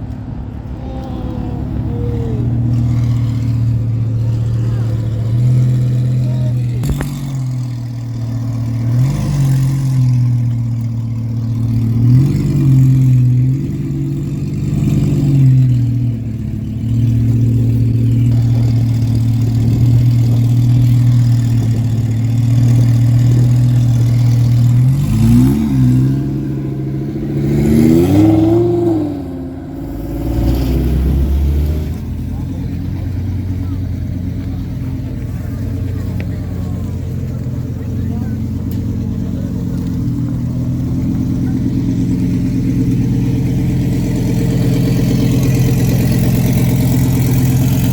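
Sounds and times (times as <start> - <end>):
car engine idling: 0.0 - 47.9
engine throttle blips: 0.0 - 47.9.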